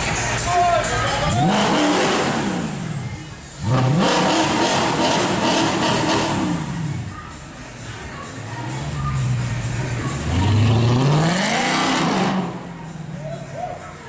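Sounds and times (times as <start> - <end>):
car engine revving: 0.0 - 13.6.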